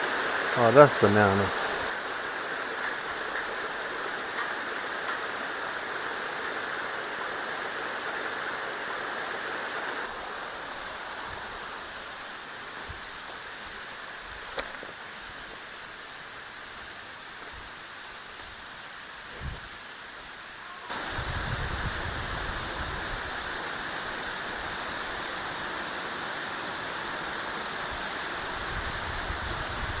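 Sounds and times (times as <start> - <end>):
waterfall rushing: 0.0 - 29.1.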